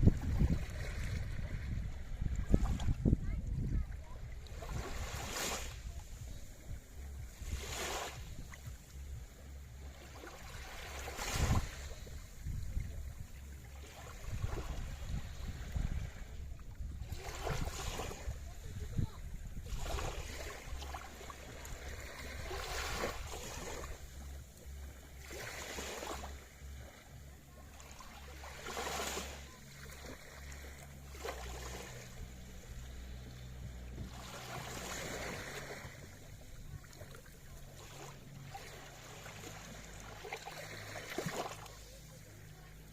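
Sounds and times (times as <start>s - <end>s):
low rumble: 0.0s - 42.9s
sea waves washing in: 0.0s - 42.9s.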